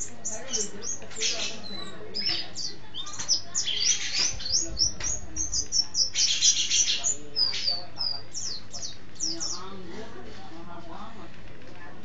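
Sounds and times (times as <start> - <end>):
bird singing high chirps: 0.0 - 9.7.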